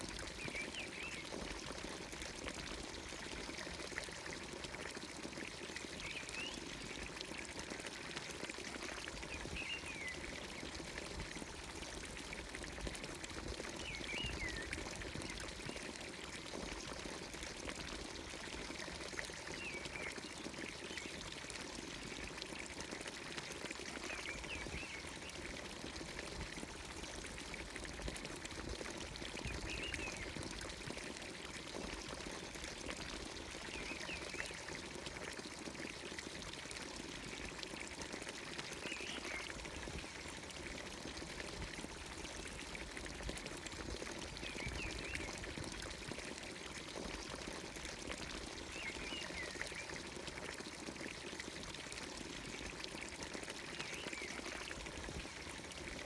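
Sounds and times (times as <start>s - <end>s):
water pouring into stone trough: 0.0s - 56.0s.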